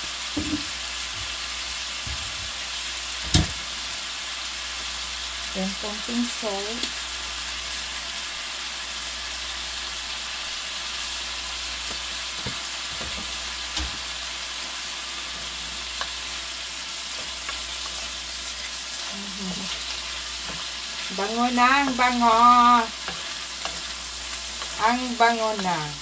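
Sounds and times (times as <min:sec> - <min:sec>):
shrimp sizzling in a pan: 0:00.0 - 0:26.0.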